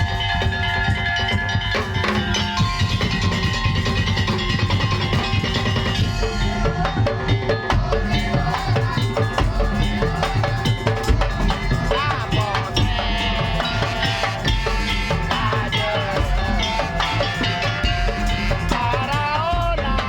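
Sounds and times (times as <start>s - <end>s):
drums and wooden percussion: 0.0s - 20.0s
pitched melody line: 0.0s - 20.0s.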